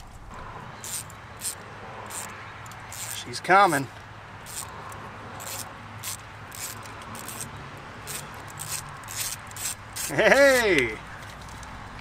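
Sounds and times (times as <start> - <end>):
wrench scraping: 0.8 - 11.7.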